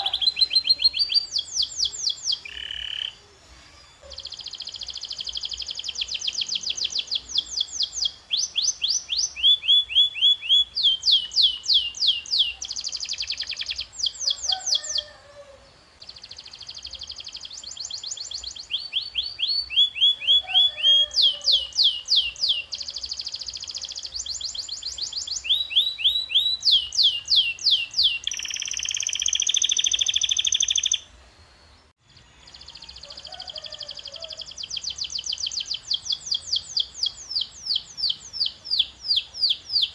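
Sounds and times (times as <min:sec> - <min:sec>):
canary singing trills: 0:00.0 - 0:31.1, 0:32.1 - 0:39.9.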